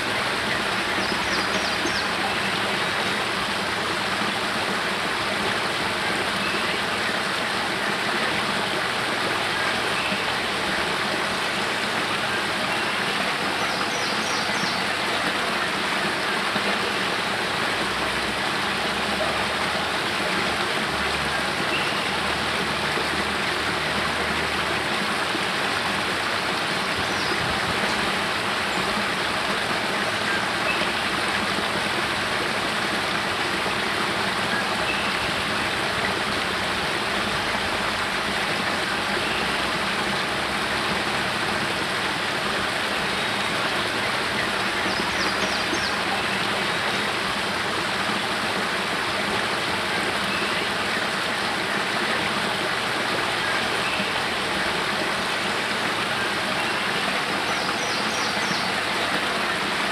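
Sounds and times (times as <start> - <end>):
waterfall splashing over rocks: 0.0 - 59.9.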